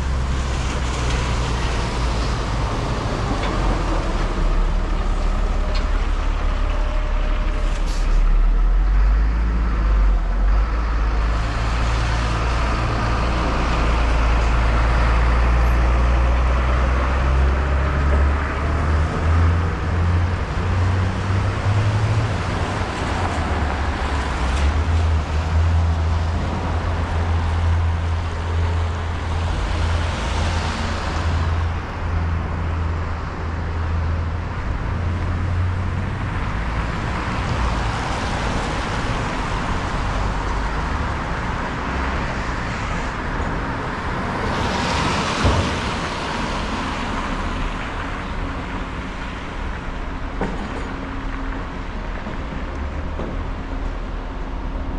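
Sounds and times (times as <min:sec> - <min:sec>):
vehicles passing: 0:00.0 - 0:54.9.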